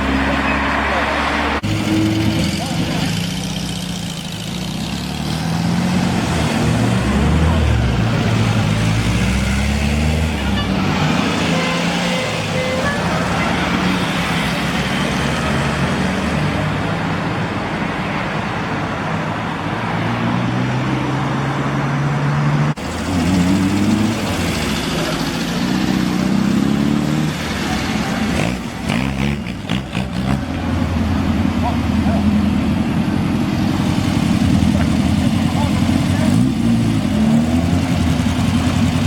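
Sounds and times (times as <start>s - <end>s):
car engines driving past: 0.0s - 39.0s.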